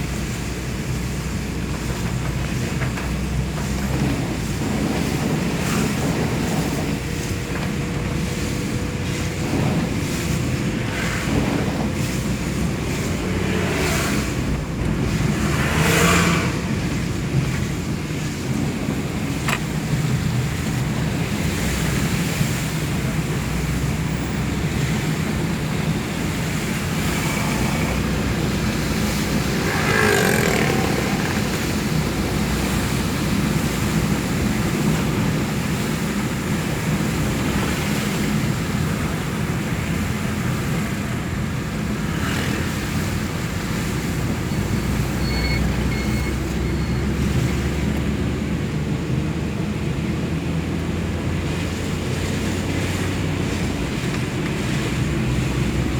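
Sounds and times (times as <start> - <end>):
tyres on wet road: 0.0 - 55.9
vehicle engine hum: 0.0 - 55.9.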